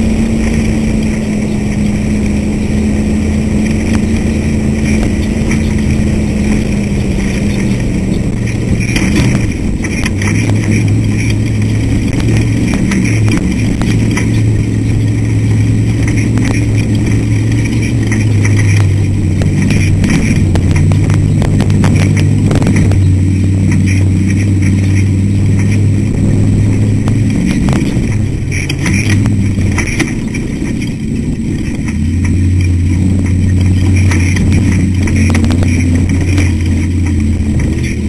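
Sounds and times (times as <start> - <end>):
chassis knocking and rattling: 0.0 - 38.0
race car engine running hard: 0.0 - 38.0.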